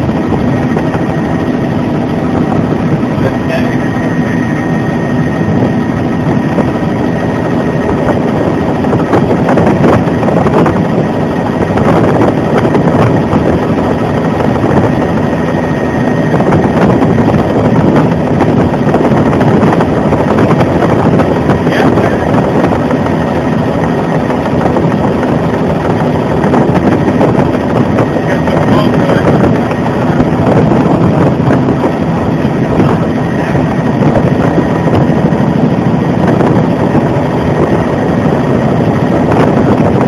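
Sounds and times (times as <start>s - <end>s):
helicopter engine and rotor: 0.0s - 40.0s.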